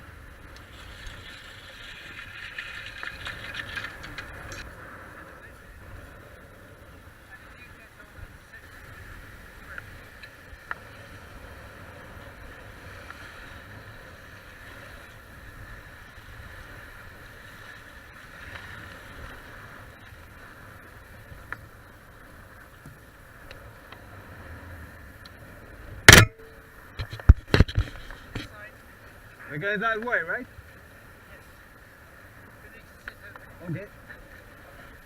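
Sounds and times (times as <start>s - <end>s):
wind noise: 0.0s - 28.6s.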